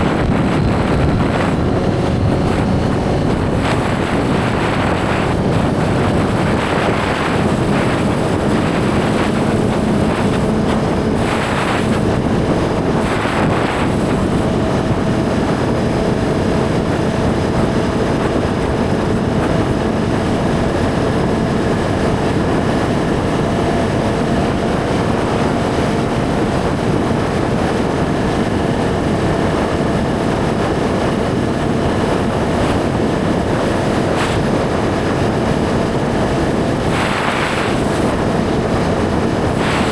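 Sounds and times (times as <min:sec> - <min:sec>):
motorcycle engine cruising: 0:00.0 - 0:39.9
wind rushing on microphone: 0:00.0 - 0:39.9.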